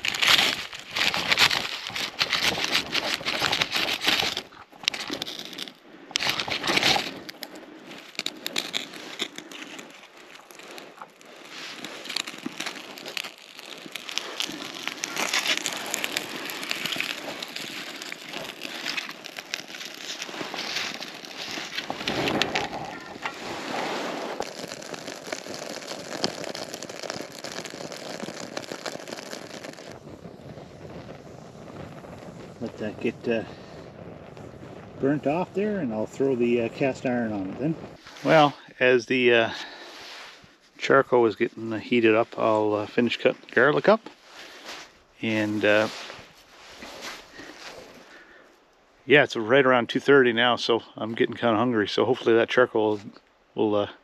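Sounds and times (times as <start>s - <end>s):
charcoal fire crackling: 0.0s - 54.0s.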